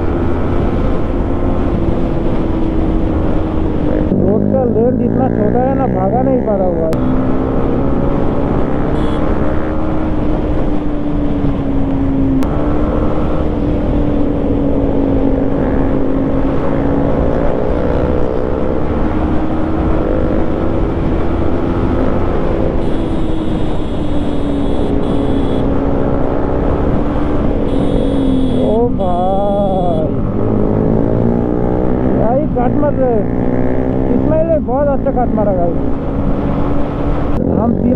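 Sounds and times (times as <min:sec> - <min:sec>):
motorcycle engine cruising: 0:00.0 - 0:37.9.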